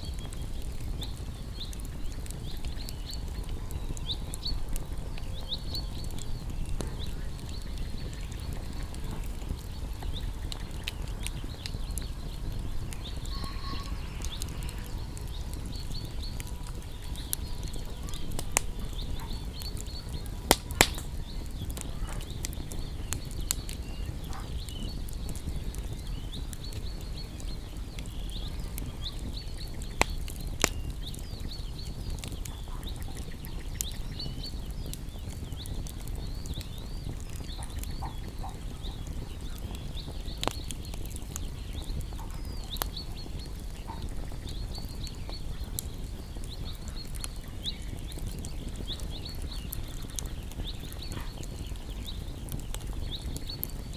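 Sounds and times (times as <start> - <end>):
sharp pops from fire: 0.0 - 53.9
small birds chirping: 0.0 - 53.9
wood fire crackling: 0.0 - 53.9.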